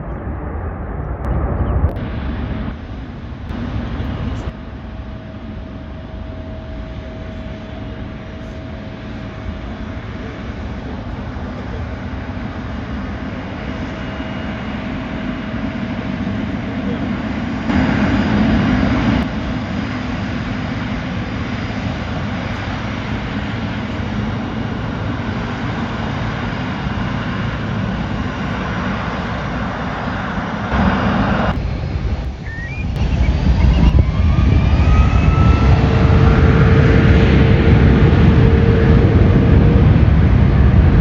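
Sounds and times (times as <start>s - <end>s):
jet engines rushing: 0.0s - 41.0s
low engine rumble: 0.0s - 41.0s
rising jet engine whine: 0.0s - 41.0s.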